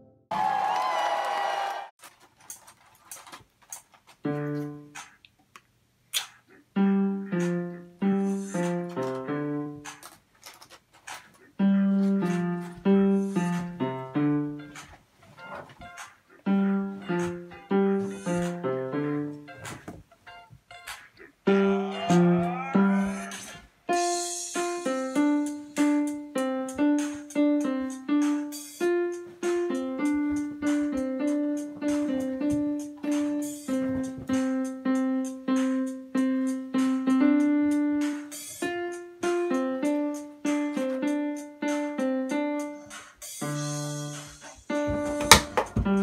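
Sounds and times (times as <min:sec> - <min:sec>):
slow piano melody: 0:04.2 - 0:05.0, 0:06.7 - 0:10.0, 0:11.6 - 0:19.7, 0:20.3 - 0:46.0.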